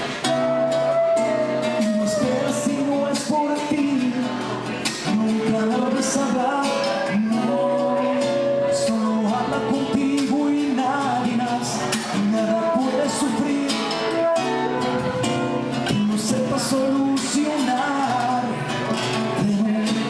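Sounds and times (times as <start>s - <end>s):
acoustic guitar: 0.0s - 20.0s
man singing: 0.0s - 20.0s.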